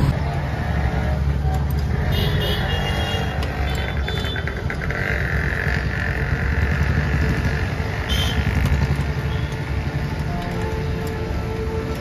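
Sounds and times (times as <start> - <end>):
motor vehicle rumbling: 0.0 - 12.0.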